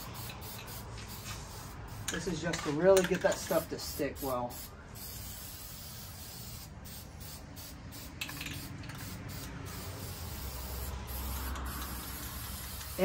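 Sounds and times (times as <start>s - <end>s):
spray can hissing in bursts: 0.0s - 13.0s.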